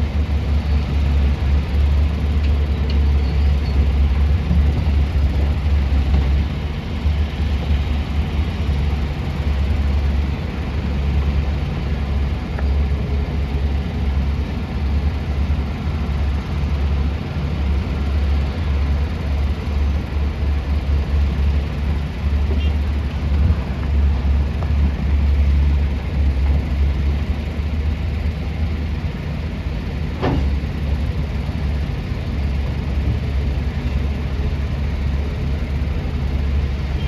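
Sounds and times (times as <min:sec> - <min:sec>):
heavy diesel machinery rumbling: 0:00.0 - 0:37.0.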